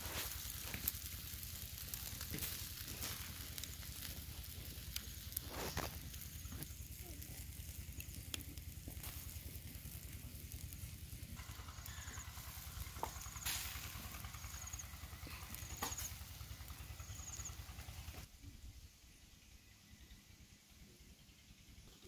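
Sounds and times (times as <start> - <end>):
wood fire crackling and popping: 0.0 - 18.3
steady low rumble: 0.0 - 20.0.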